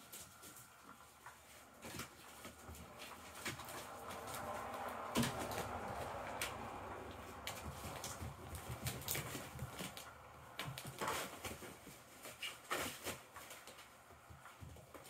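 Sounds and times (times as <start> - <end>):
kittens scuffling on fabric: 0.0 - 15.0.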